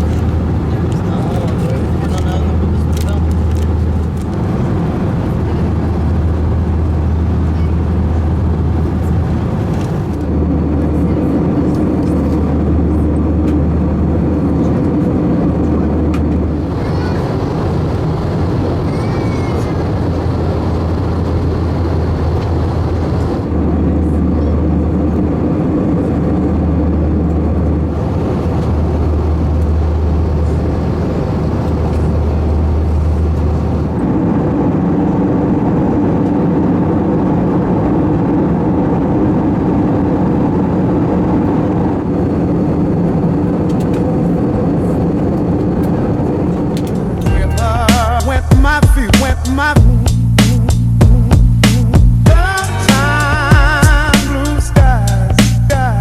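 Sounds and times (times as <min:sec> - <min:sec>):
airliner cabin engine drone: 0:00.0 - 0:56.0
deep low hum: 0:00.0 - 0:56.0.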